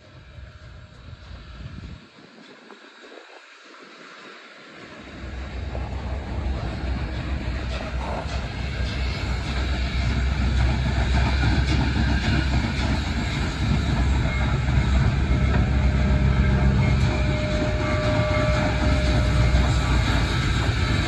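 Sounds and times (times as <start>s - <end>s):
train rumbling past on track: 0.0s - 21.0s.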